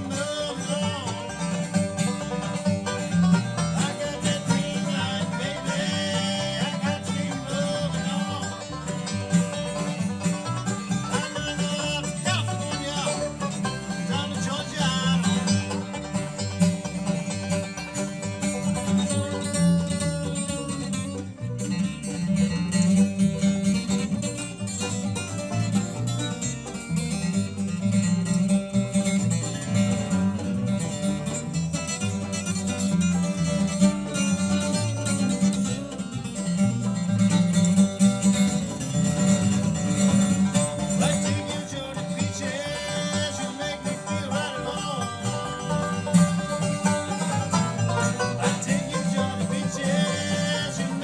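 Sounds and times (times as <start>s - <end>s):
banjo picking: 0.0s - 51.0s
bass line: 0.0s - 51.0s
bluegrass band playing: 0.0s - 51.0s.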